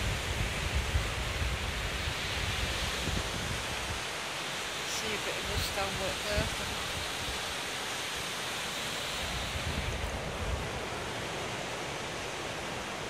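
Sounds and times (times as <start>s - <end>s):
wind rumble on microphone: 0.0s - 7.6s, 9.1s - 13.0s
surf breaking on beach: 0.0s - 13.0s.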